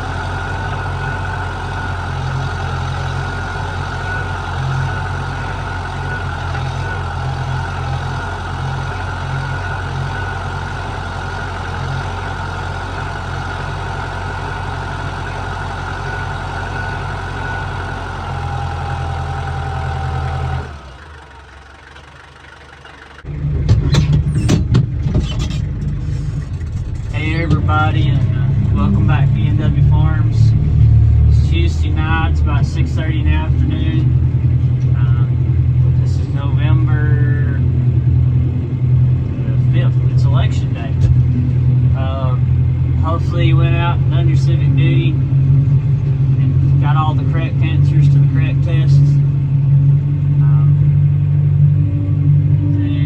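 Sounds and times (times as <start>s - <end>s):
engine idling: 0.0s - 53.0s
rough engine rumble with knocks: 0.0s - 53.0s.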